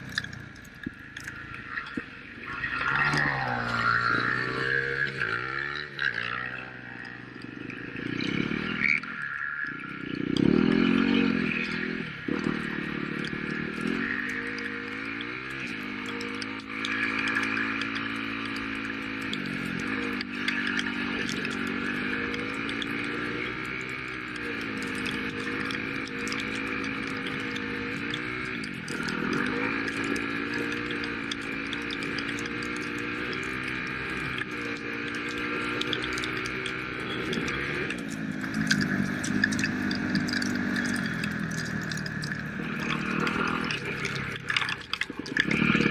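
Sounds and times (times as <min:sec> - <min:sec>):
dirt bike engine revving: 0:00.0 - 0:45.9
small ticks: 0:00.0 - 0:45.9.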